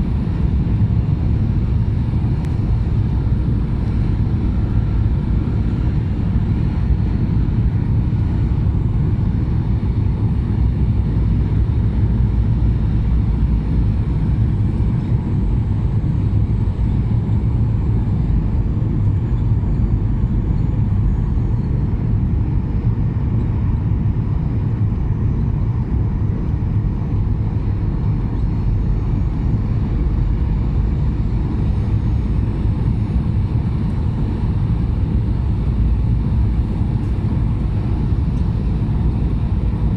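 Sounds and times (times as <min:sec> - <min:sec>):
engine rumble in airliner cabin: 0:00.0 - 0:39.9.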